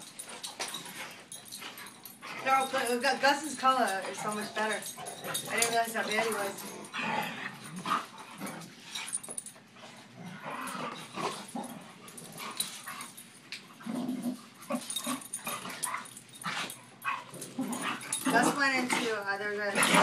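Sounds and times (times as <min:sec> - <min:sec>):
dogs play-fighting: 0:00.0 - 0:20.0.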